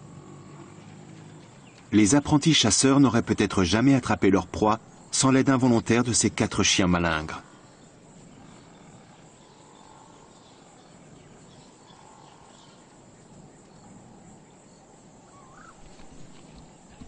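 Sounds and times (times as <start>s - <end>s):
natural outdoor ambience: 0.0s - 17.0s.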